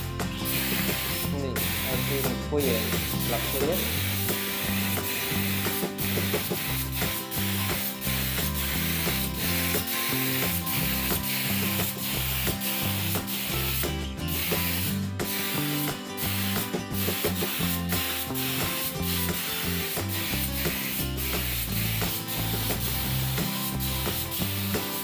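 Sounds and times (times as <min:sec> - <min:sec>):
spray gun hissing: 0:00.4 - 0:25.0.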